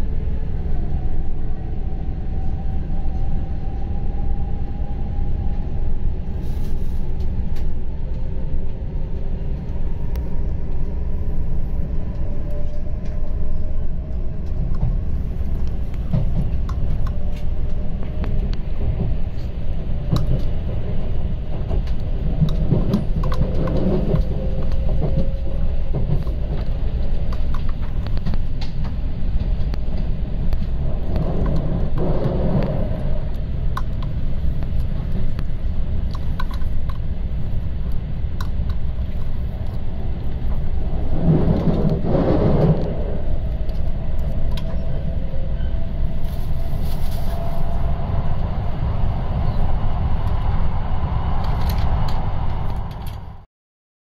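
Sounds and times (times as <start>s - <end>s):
train running rumble: 0.0s - 53.5s.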